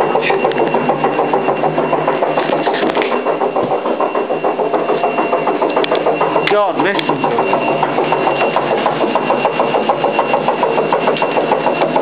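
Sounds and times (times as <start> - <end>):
washing machine drone: 0.0 - 12.0.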